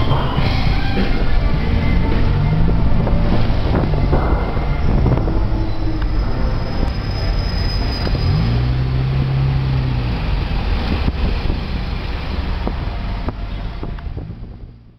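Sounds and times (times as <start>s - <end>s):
low engine drone: 0.0s - 14.9s
vehicle rumble: 0.0s - 14.9s
wind or road noise: 0.0s - 14.9s.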